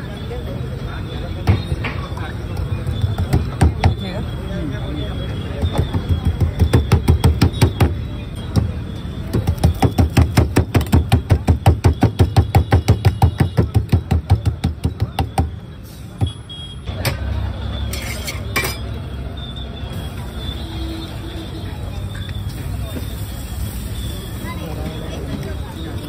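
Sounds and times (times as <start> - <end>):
street traffic hum: 0.0 - 26.0.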